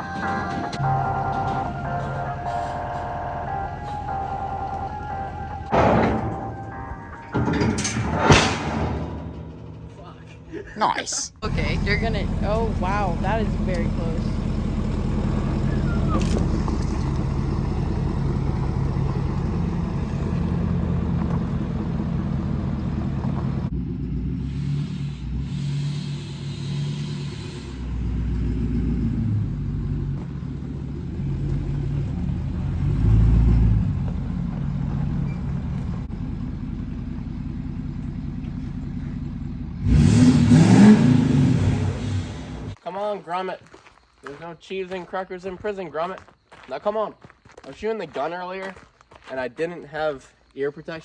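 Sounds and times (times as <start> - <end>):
diesel truck engines revving: 0.0 - 42.8.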